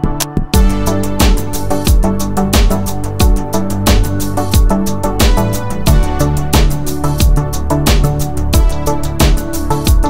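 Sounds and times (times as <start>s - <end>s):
steady drum beat: 0.6s - 10.0s.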